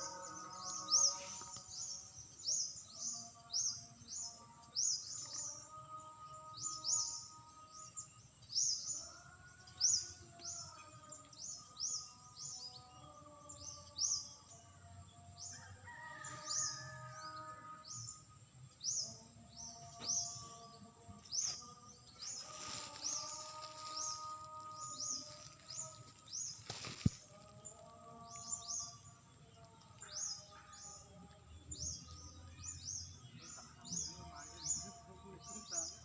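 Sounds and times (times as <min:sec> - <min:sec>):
bird chirping: 0:00.0 - 0:36.0
soft background music: 0:00.0 - 0:36.0.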